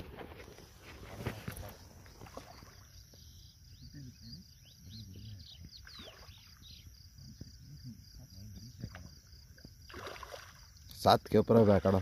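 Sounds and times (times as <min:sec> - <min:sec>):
insects trilling: 0:00.6 - 0:12.0.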